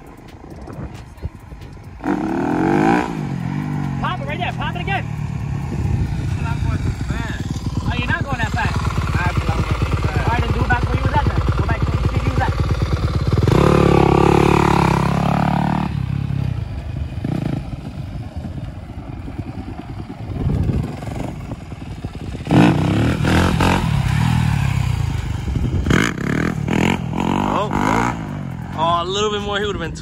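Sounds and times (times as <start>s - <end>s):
dirt bike engine revving: 2.0s - 29.7s.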